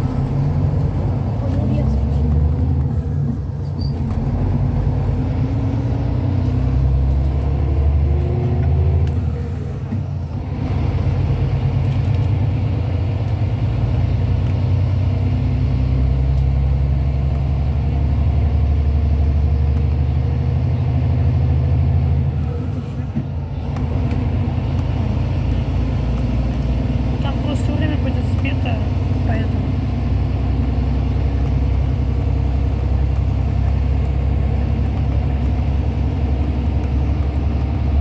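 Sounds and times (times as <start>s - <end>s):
coach engine and road rumble: 0.0s - 38.0s.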